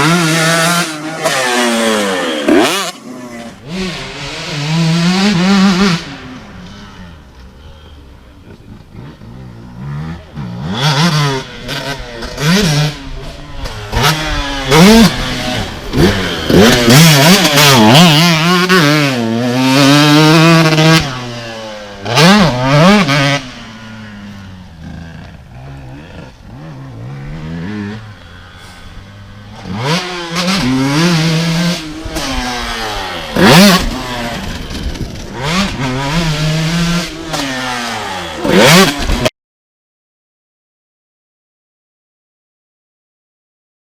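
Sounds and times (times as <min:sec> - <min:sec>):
motocross engine revving: 0:00.0 - 0:39.3.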